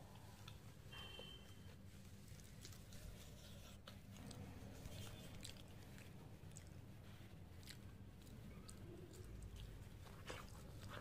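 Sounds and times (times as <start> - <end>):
faint chewing of food: 0.0 - 11.0
low background hum: 0.0 - 11.0.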